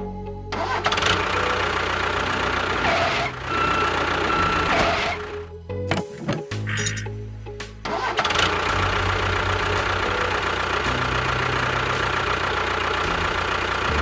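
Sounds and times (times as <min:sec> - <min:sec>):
background music: 0:00.0 - 0:14.0
engine humming: 0:00.2 - 0:14.0.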